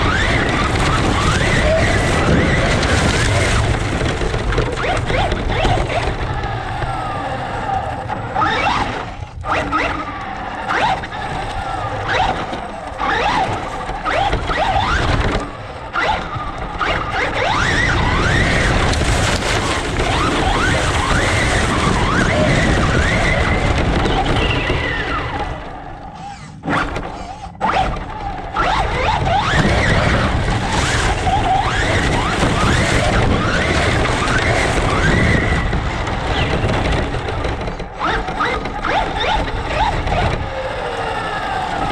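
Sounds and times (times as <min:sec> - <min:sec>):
rc truck motor whining: 0:00.0 - 0:41.9.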